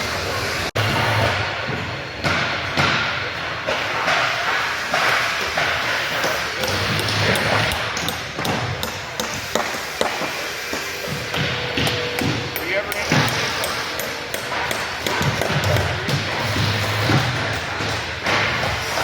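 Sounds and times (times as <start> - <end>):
din of tools: 3.7 - 19.0.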